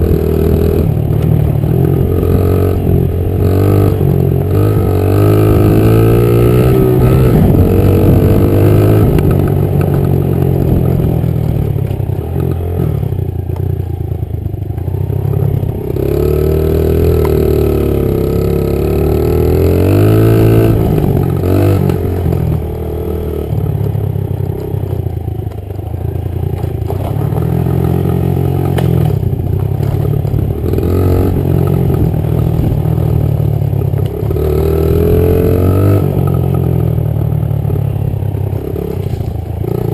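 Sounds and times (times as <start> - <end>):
dirt bike engine revving: 0.0 - 13.2, 14.9 - 25.0, 26.2 - 37.0.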